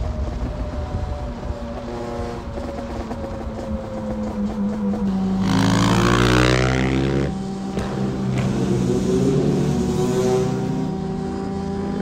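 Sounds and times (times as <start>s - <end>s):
motorcycle engine revving: 1.0s - 12.0s.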